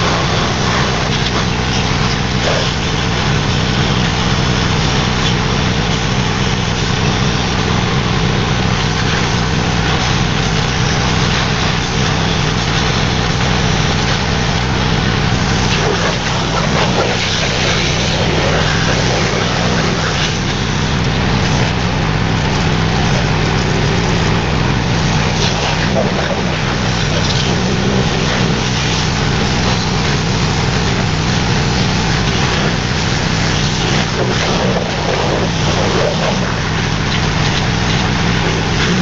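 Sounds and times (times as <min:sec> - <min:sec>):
pressure washer engine running: 0:00.0 - 0:39.0
water jet hissing: 0:00.0 - 0:39.0.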